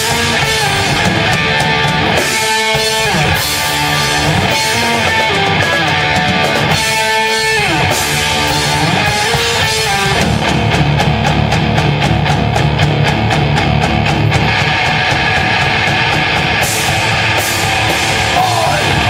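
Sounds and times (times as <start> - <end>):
drums playing a fast beat: 0.0 - 19.0
sliding guitar notes: 0.0 - 19.0.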